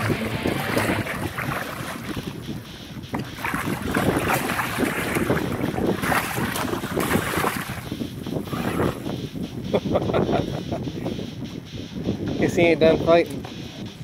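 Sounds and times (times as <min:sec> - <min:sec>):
water splashing and churning: 0:00.0 - 0:12.2
wind buffeting microphone: 0:00.0 - 0:14.0.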